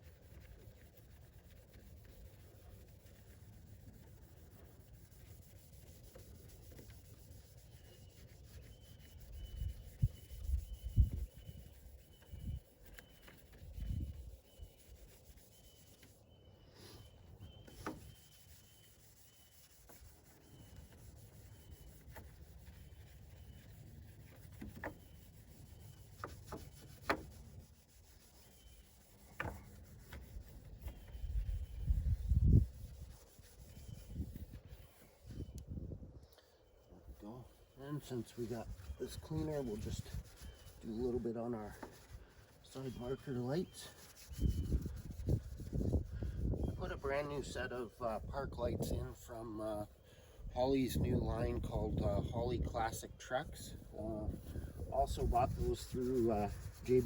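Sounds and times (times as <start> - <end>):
cloth scrubbing plastic lens: 0.0 - 16.3, 17.0 - 35.6, 37.1 - 48.0, 53.8 - 57.0.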